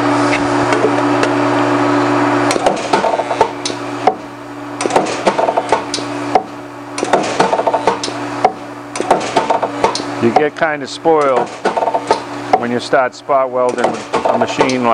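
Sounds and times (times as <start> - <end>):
steady hum: 0.0 - 14.9.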